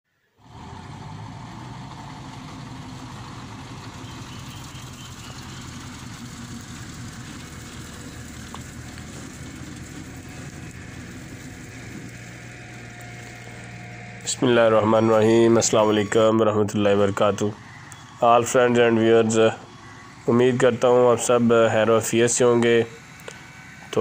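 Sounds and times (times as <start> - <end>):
diesel truck engine running: 0.4 - 24.0.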